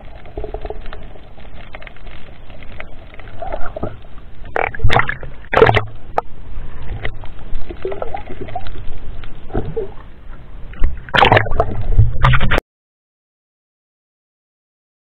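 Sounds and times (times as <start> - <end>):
rush of water: 0.0 - 12.6
water sloshing and splashing: 0.0 - 12.6.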